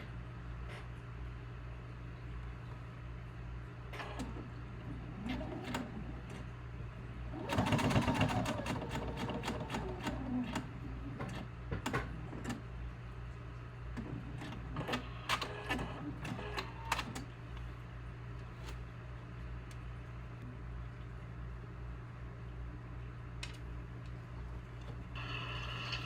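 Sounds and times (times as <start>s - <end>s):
steady low hum: 0.0s - 7.6s, 9.6s - 26.0s.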